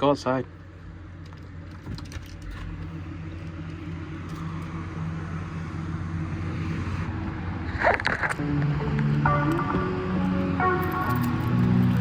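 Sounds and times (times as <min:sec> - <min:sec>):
motor vehicle humming: 0:00.5 - 0:12.0.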